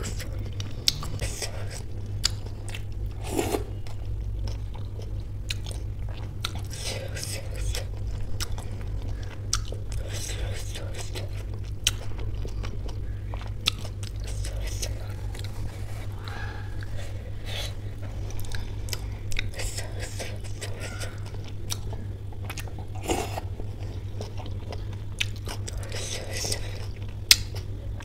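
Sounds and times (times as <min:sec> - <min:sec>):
close chewing and biting: 0:00.0 - 0:28.0
low hum: 0:00.0 - 0:28.0.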